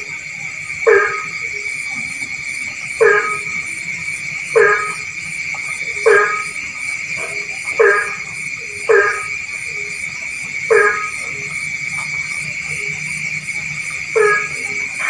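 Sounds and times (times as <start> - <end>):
frog croaking: 0.0 - 15.0
high-pitched chorus of night calls: 0.0 - 15.0.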